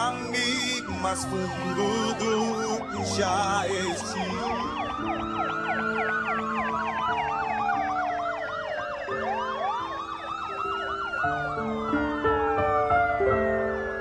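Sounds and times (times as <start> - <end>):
siren wail: 0.0 - 14.0
siren yelp: 0.0 - 14.0
song with sustained notes: 0.0 - 14.0.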